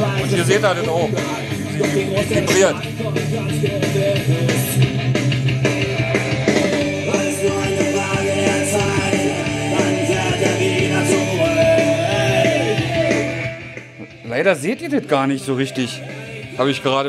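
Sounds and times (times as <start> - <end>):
loud rock song through speaker: 0.0 - 17.0.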